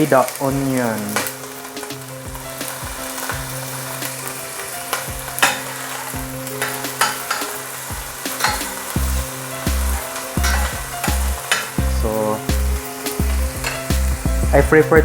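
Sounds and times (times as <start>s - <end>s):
onion sizzling in hot oil: 0.0s - 15.0s
utensil scraping against pan: 1.0s - 14.3s.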